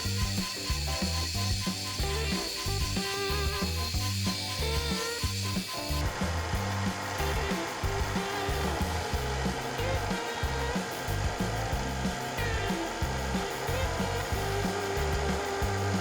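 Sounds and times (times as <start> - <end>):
background music with beat: 0.0 - 16.0
milling machine cutting hiss: 0.0 - 16.0.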